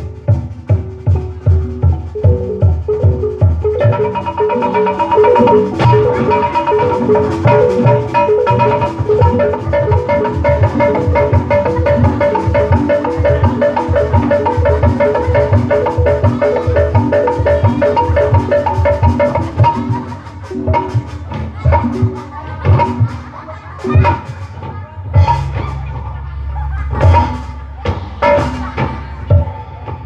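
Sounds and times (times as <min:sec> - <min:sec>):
drum strokes: 0:00.0 - 0:30.0
metallophones playing fast runs: 0:00.0 - 0:30.0.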